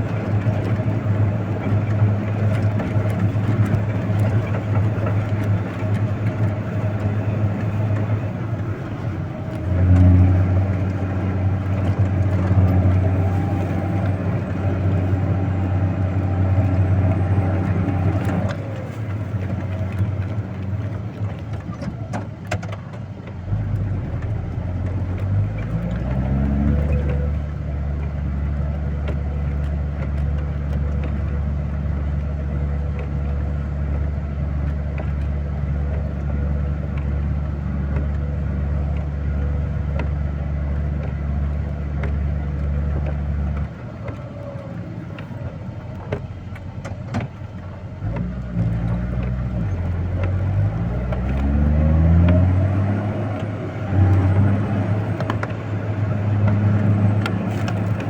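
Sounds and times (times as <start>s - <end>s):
heavy vehicle engine revving: 0.0s - 22.1s, 23.0s - 58.0s.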